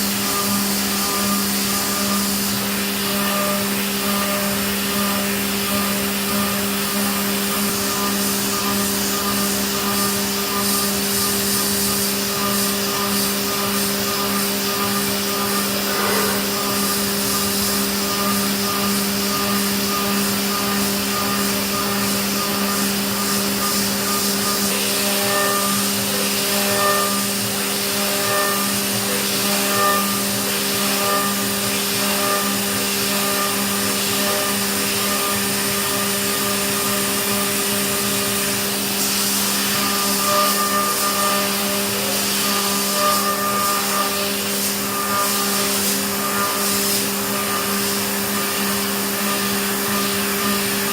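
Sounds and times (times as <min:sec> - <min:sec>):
high whine of metal cutting: 0:00.0 - 0:50.9
milling machine hum and hiss: 0:00.0 - 0:50.9.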